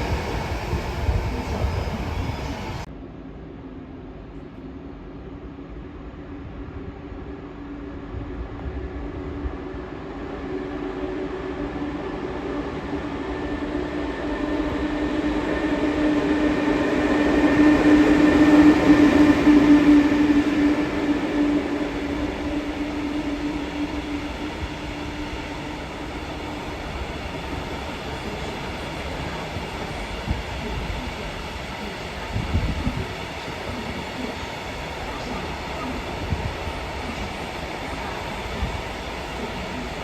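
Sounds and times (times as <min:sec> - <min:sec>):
electric locomotive hum and whine: 0:00.0 - 0:40.0.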